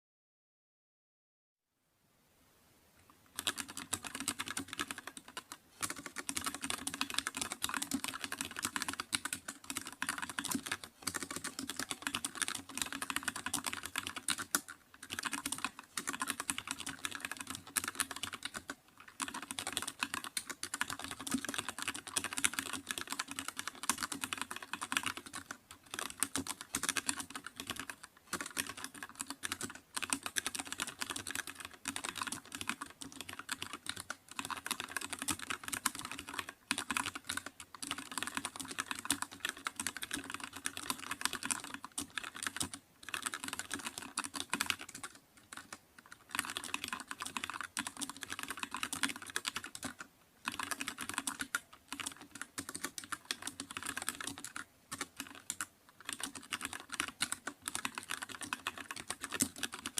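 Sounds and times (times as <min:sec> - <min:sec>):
computer keyboard typing: 0:03.3 - 0:59.9.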